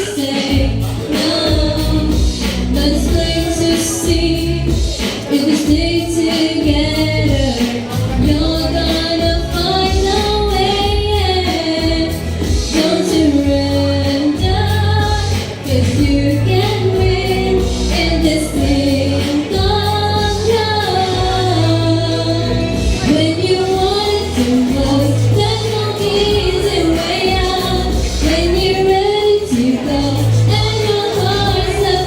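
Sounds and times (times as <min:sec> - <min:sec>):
instrumental backing with bass: 0:00.0 - 0:32.0
woman singing: 0:00.0 - 0:32.0.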